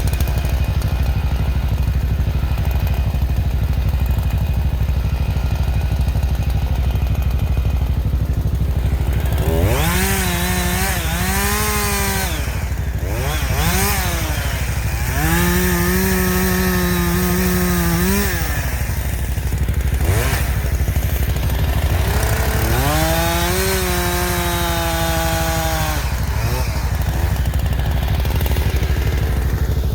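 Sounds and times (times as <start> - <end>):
chainsaw cutting wood: 0.0 - 29.9
chainsaw idling and revving: 0.0 - 29.9.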